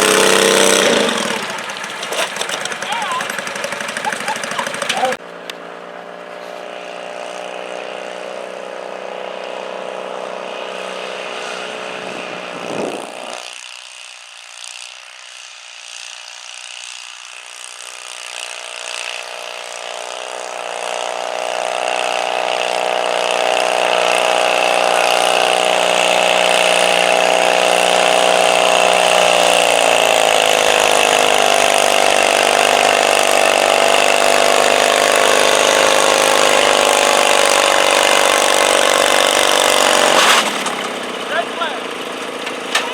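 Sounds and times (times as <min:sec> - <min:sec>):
garden tractor engine revving: 0:00.0 - 0:05.2, 0:06.7 - 0:13.8, 0:16.6 - 0:42.9.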